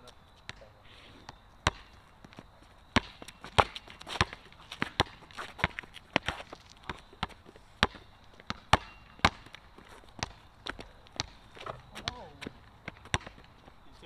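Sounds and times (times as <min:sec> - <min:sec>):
footsteps and shuffling: 0:00.0 - 0:14.0
basketball bouncing on hard court: 0:01.2 - 0:13.7.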